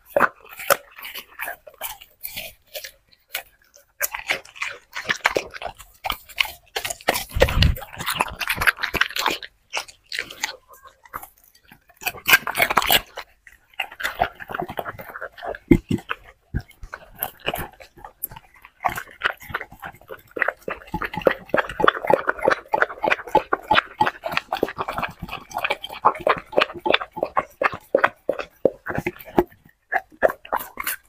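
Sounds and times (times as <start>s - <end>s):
dog chewing crisp lettuce: 0.0s - 31.0s.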